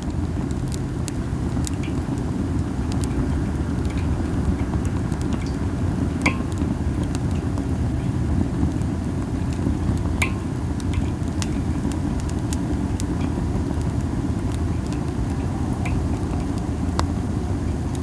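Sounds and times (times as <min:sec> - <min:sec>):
campfire crackling and popping: 0:00.0 - 0:18.0
wind rumble on microphone: 0:00.0 - 0:18.0.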